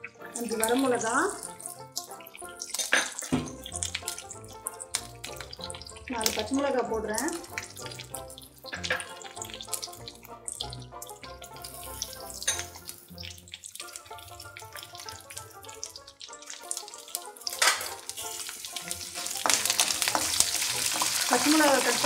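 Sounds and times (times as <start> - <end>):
background music: 0.0 - 22.0
chillies sizzling in hot oil: 0.0 - 22.0.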